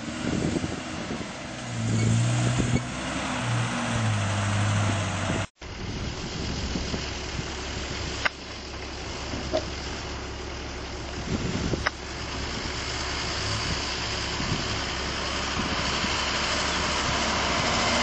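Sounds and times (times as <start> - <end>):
off-road vehicle engine rumble: 0.0 - 18.0
vehicle engine at low speed: 0.0 - 18.0.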